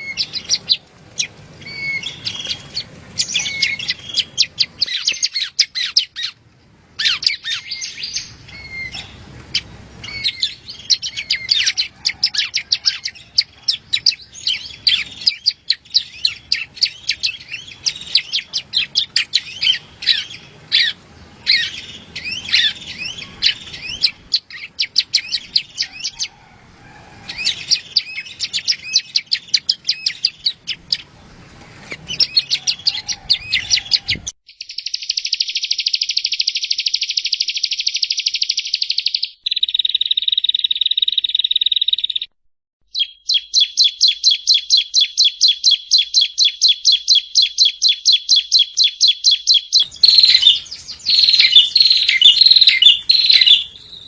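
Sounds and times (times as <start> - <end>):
bird chirps and trills: 0.0 - 26.4, 27.3 - 42.3, 42.9 - 54.0.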